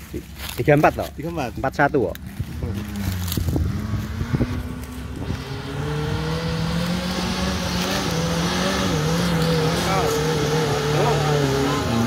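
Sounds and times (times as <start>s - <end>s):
off-road car engine revving: 0.6s - 12.0s.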